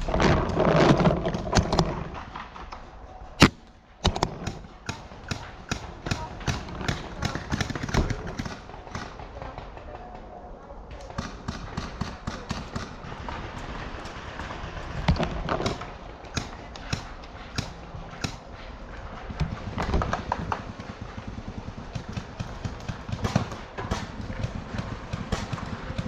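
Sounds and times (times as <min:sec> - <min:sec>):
paintball markers firing: 0:03.4 - 0:10.0, 0:10.9 - 0:26.0.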